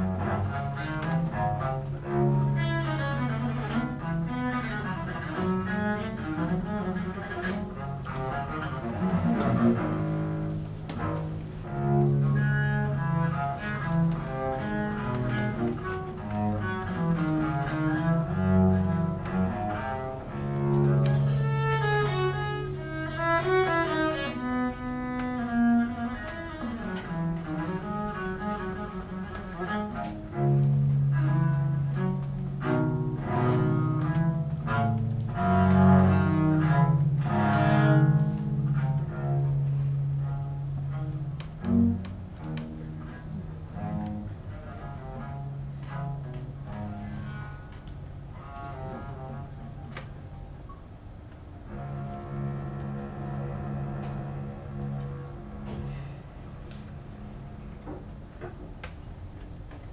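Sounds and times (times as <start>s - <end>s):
solo cello playing: 0.0s - 59.9s.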